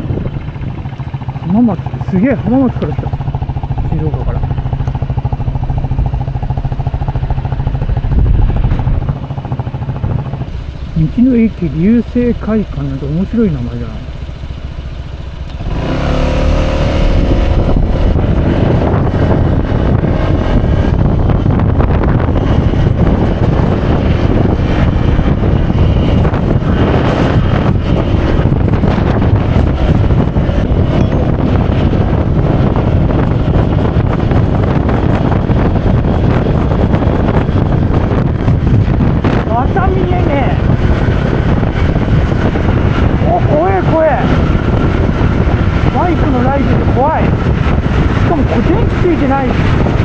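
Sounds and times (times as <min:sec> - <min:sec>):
scooter engine: 0:00.0 - 0:50.0
wind and road noise: 0:00.0 - 0:50.0.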